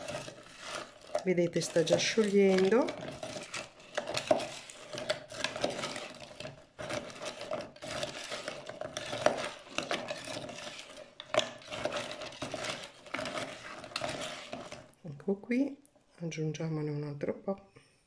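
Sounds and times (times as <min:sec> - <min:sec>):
metal spoon scraping and clinking: 0:00.0 - 0:14.9.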